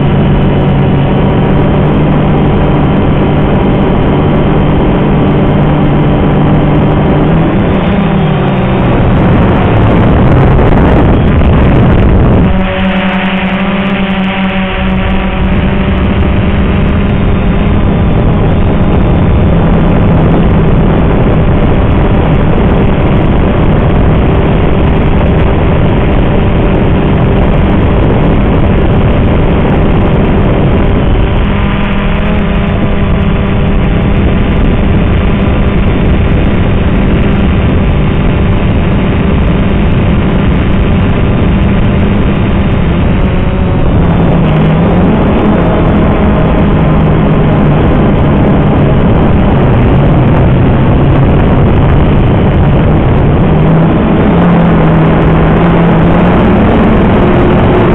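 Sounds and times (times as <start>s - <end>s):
drone motors and propellers humming: 0.0s - 57.9s.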